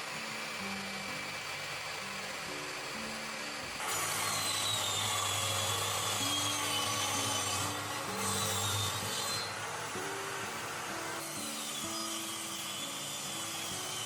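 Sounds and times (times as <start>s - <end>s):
power saw cutting wood: 0.0s - 14.0s.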